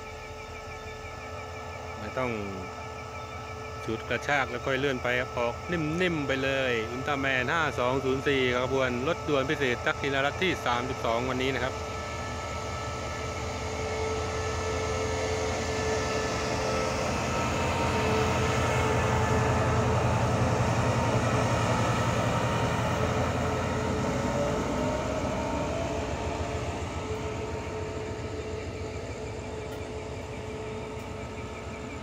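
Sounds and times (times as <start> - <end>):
diesel locomotive engine running: 0.0 - 32.0
faint rising whine: 0.0 - 32.0.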